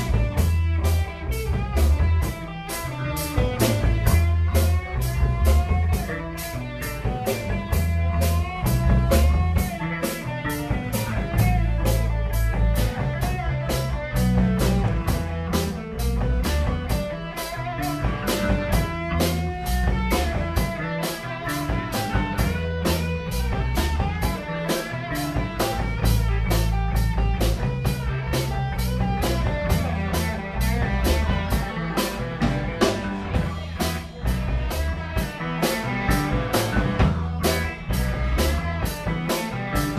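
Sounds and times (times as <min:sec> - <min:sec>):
drum kit beat: 0:00.0 - 0:39.9
electric guitars: 0:00.0 - 0:39.9.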